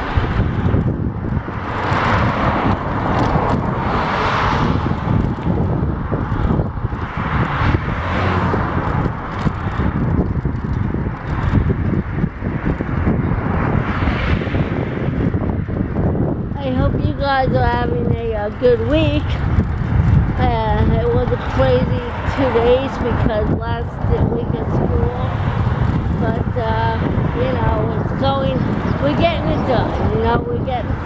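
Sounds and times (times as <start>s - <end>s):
cars passing: 0.0s - 31.0s
wind buffeting microphone: 0.0s - 31.0s.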